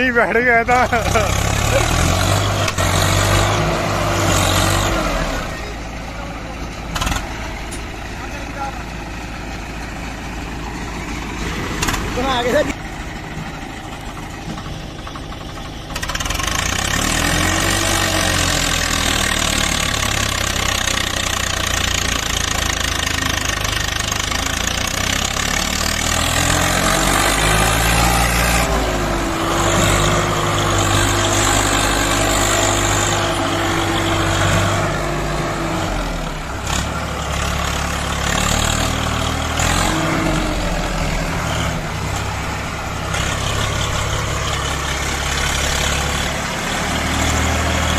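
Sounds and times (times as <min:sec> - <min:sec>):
tractor diesel engine under load: 0:00.0 - 0:47.9
constant rattling: 0:04.6 - 0:47.9.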